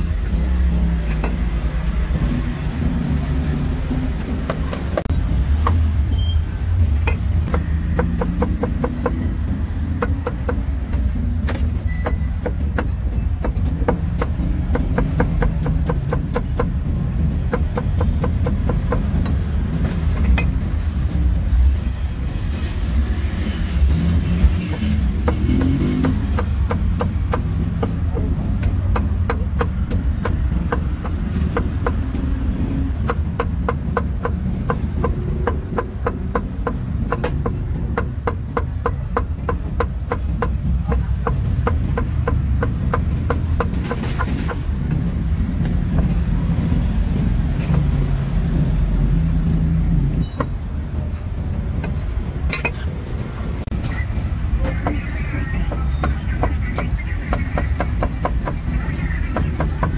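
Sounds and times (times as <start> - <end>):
low traffic rumble: 0.0 - 59.9.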